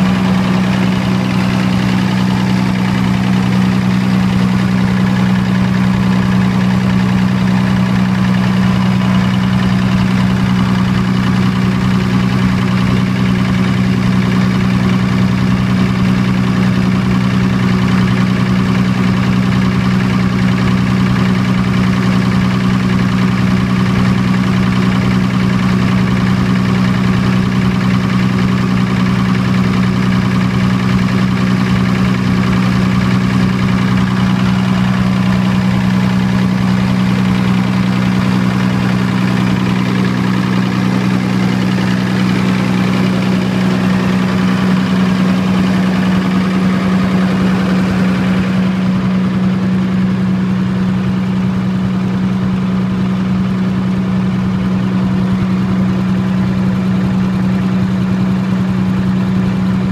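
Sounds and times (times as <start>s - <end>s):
diesel generator engine running: 0.0s - 59.9s.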